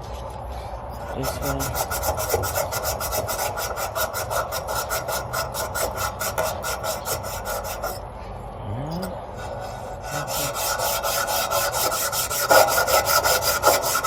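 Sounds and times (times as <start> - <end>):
scrubbing copper tubing: 1.0 - 8.0, 9.3 - 14.0.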